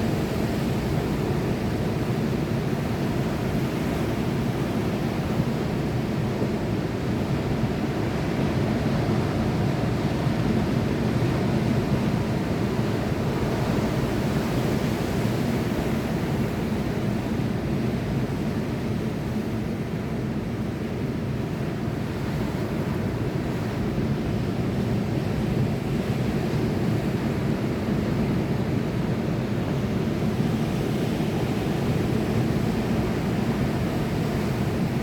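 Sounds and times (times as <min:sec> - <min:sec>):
waves rushing with deep rumble: 0:00.0 - 0:35.0.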